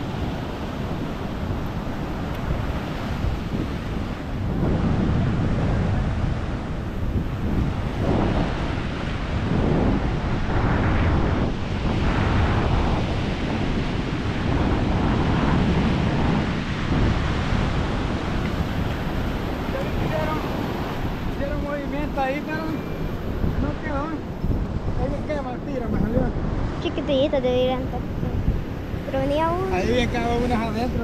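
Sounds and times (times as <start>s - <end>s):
ocean surf breaking on beach: 0.0s - 31.0s
wind buffeting microphone: 0.0s - 31.0s.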